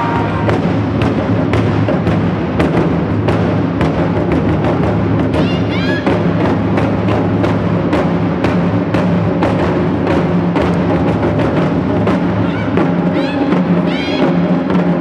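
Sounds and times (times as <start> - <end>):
drum ensemble playing: 0.0 - 15.0.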